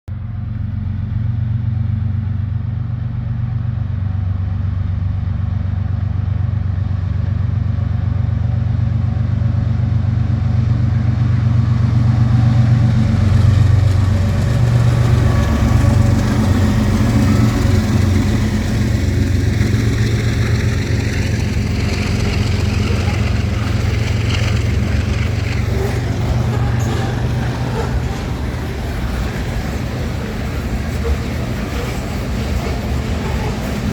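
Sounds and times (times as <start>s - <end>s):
diesel locomotive engine revving: 0.1s - 33.9s.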